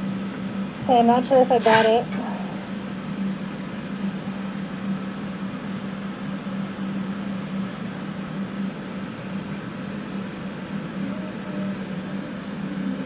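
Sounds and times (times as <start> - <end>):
extraction fans rushing air: 0.0 - 13.0.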